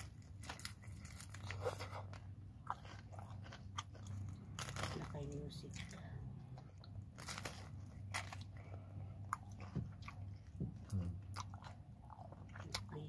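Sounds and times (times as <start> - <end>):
crunching fried spring roll: 0.0 - 5.9, 6.6 - 13.0
chewing: 0.0 - 13.0.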